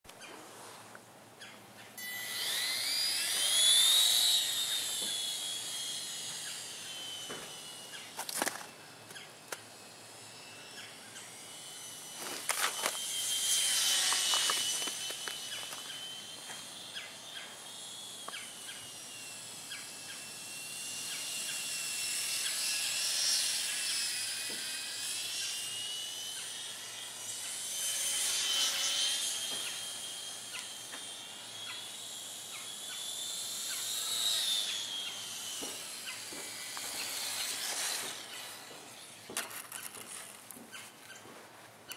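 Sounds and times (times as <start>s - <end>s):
model plane motor whining: 1.4s - 41.3s.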